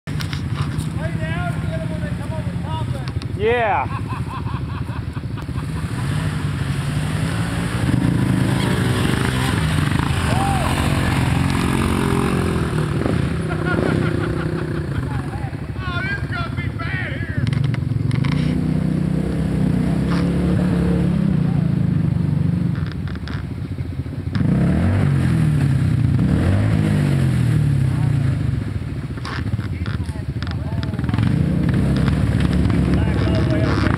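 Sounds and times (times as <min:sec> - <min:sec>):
off-road vehicle engine running: 0:00.1 - 0:33.9.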